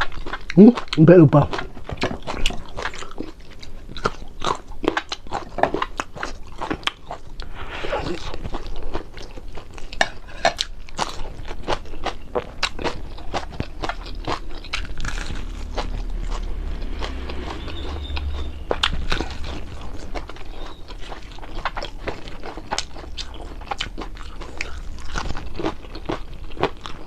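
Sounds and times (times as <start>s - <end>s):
crunching crispy food: 0.0s - 27.0s
wet chewing: 0.0s - 27.0s.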